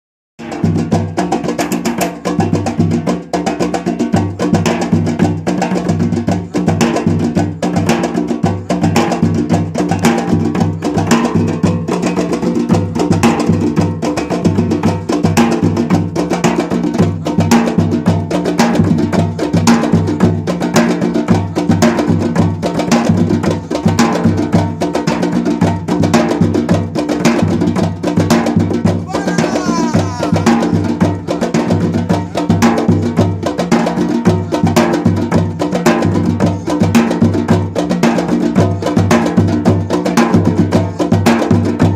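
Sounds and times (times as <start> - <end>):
fast hand drum strikes: 0.4 - 41.9.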